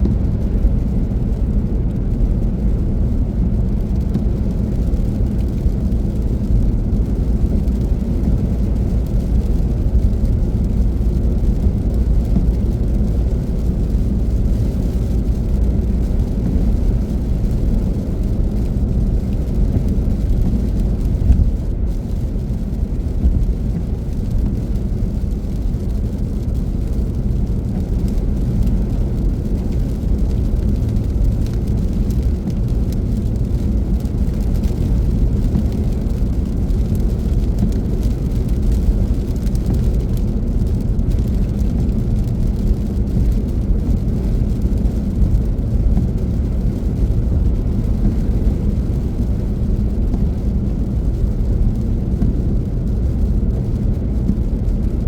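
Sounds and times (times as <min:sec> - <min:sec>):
car driving road noise: 0:00.0 - 0:55.0.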